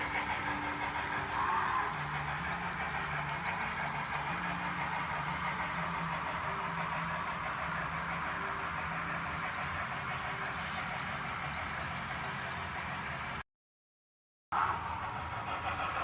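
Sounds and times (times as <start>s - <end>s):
model train rolling: 0.0s - 13.4s, 14.6s - 16.0s.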